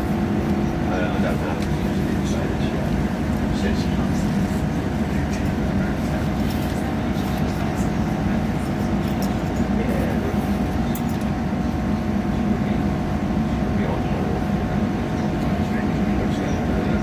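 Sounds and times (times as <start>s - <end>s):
train running noise from inside: 0.0s - 17.0s.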